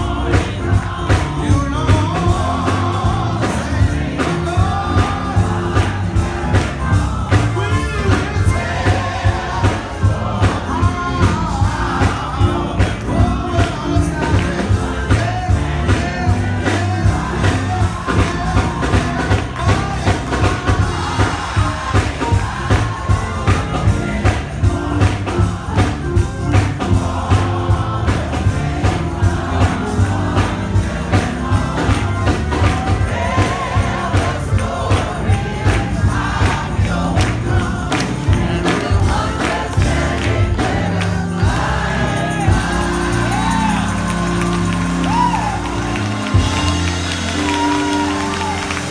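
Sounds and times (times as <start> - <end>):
choir singing: 0.0 - 48.9
live band with steady beat: 0.0 - 48.9
people singing: 0.0 - 48.9.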